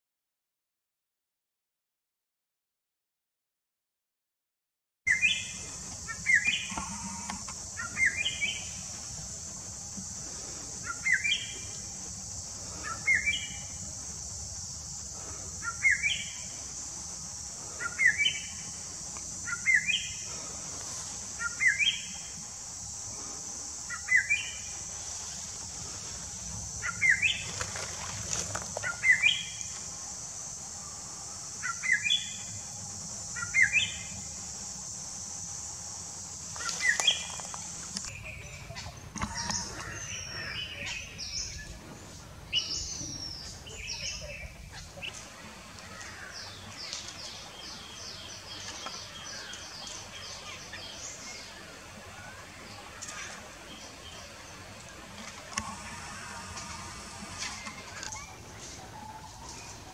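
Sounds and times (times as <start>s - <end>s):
high insect drone: 5.1s - 59.9s.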